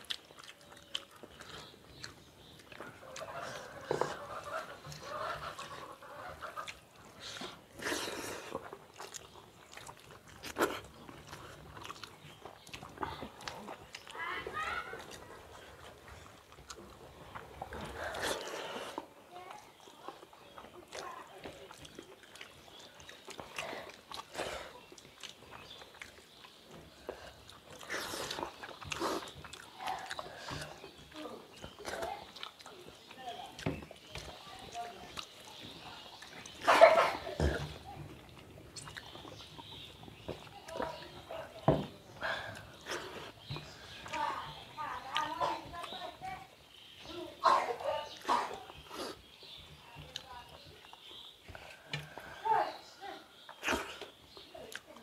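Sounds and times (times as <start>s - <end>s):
wet chewing and lip smacking: 0.0s - 55.0s.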